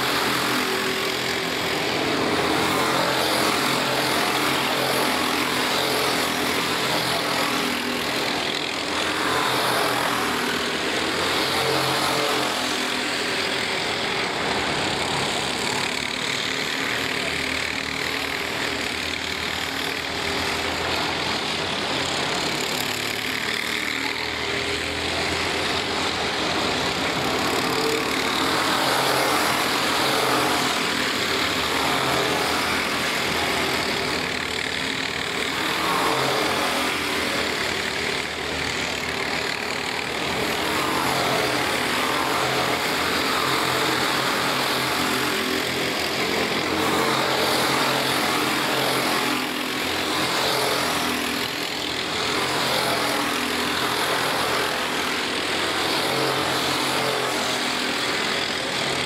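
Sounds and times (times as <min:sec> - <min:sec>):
racing kart engines revving: 0:00.0 - 0:59.0.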